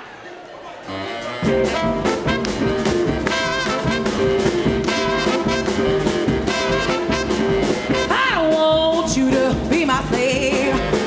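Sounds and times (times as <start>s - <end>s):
horns holding notes: 0.8s - 11.0s
bass: 1.0s - 11.0s
drum beat: 1.3s - 11.0s.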